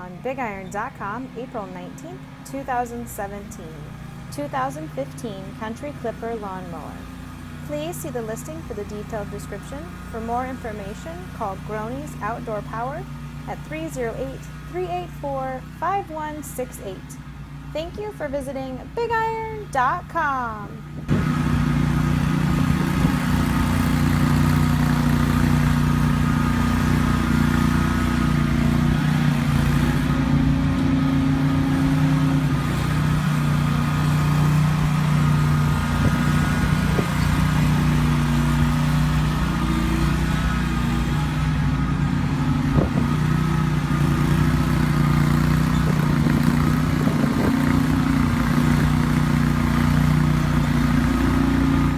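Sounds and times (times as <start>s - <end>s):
lawn mower engine running: 0.0s - 51.9s.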